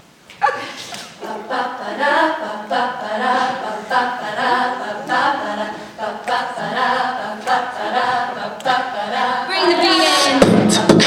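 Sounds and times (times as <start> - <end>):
a cappella group singing chords: 1.0 - 11.0.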